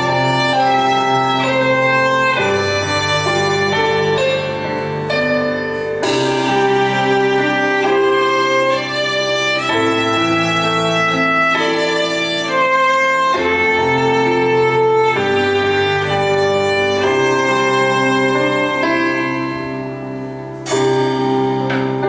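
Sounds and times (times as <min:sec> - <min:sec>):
bowed string melody: 0:00.0 - 0:22.0
lower chordal accompaniment: 0:00.0 - 0:22.0.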